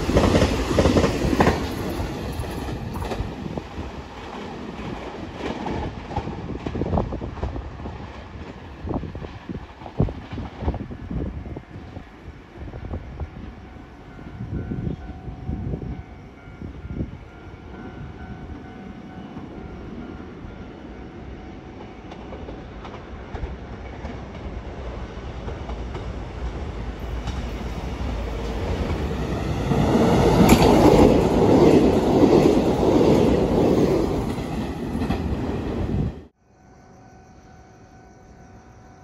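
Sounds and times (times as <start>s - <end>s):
train running past: 0.0s - 39.0s.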